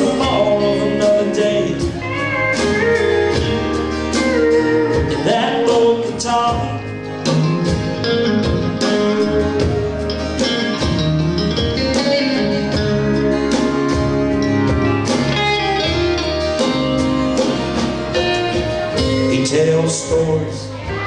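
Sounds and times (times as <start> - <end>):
country band playing: 0.0 - 21.0
guitar: 0.0 - 21.0.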